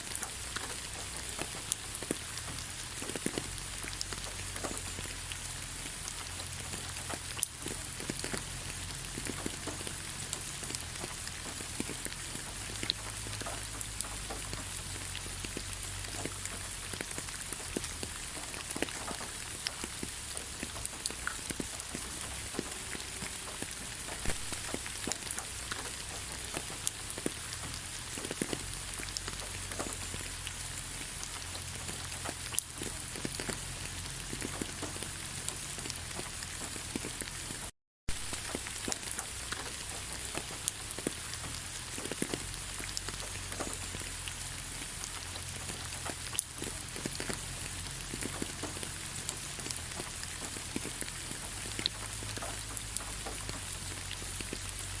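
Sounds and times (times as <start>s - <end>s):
raindrops ticking: 0.0s - 55.0s
steady rain hiss: 0.0s - 55.0s.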